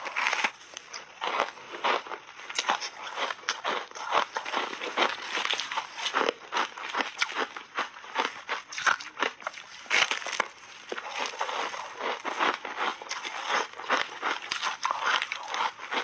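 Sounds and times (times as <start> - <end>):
shaved ice crunching when chewed: 0.0 - 16.0.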